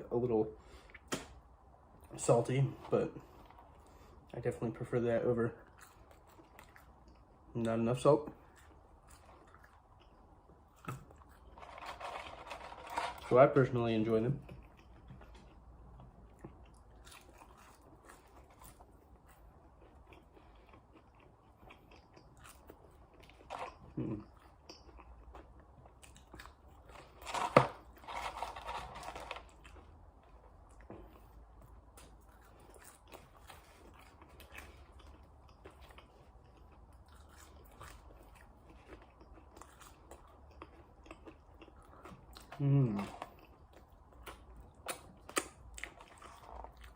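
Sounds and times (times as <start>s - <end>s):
low steady hum: 0.0s - 46.9s
chewing crunchy fries: 2.0s - 46.9s.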